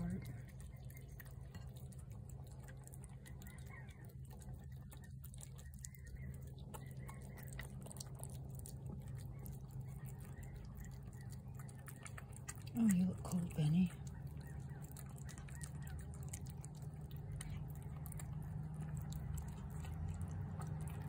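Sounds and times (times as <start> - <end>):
cat chewing wet food: 0.0 - 21.0
low hum: 0.0 - 21.0.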